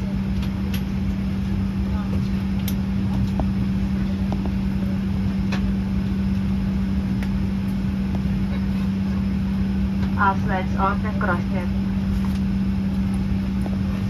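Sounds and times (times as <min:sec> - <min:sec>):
air-conditioning airflow rush: 0:00.0 - 0:14.0
low hum: 0:00.0 - 0:14.0.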